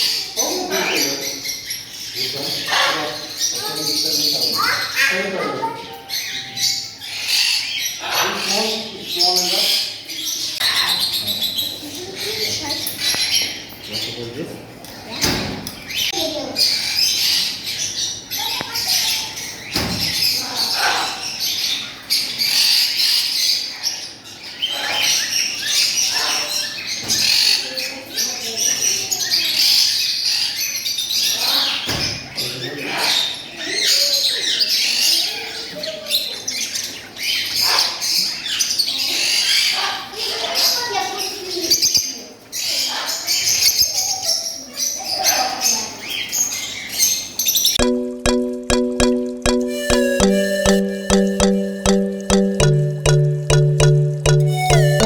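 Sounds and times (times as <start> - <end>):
caged birds chirping: 0.0 - 47.6.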